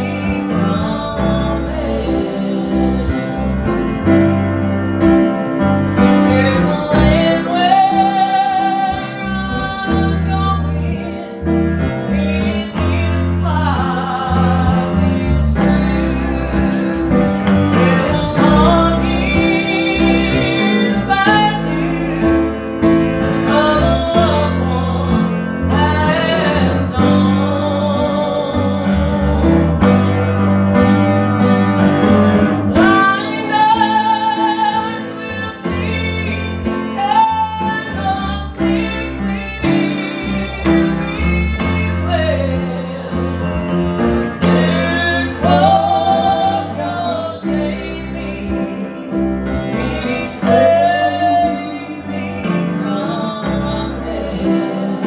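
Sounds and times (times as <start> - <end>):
women singing gospel: 0.0 - 4.3, 5.0 - 30.2, 32.5 - 55.0
bass and guitar accompaniment: 0.0 - 55.0.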